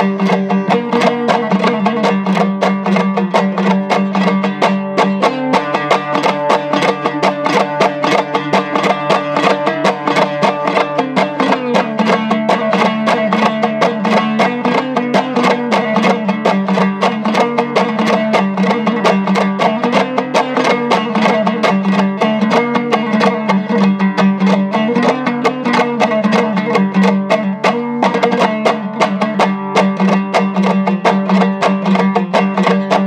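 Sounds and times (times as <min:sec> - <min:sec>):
held low melody line: 0:00.0 - 0:33.0
plucked string instrument strumming: 0:00.0 - 0:33.0.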